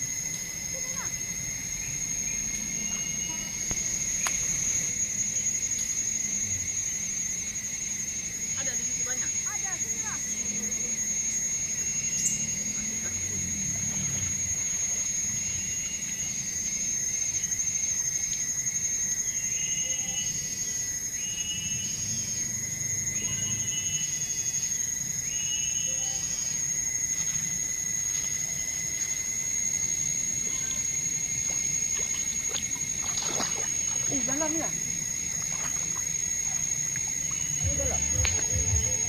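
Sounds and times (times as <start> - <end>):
drone of forest insects: 0.0 - 39.0.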